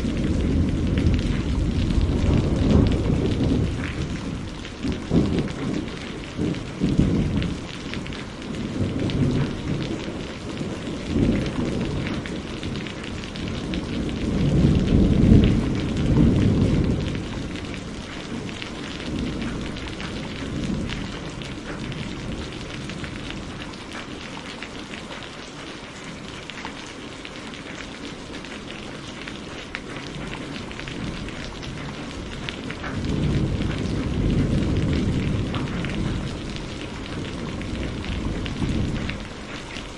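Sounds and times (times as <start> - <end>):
rolling thunder: 0.0 - 23.8, 29.9 - 39.9
heavy rain: 0.0 - 39.9.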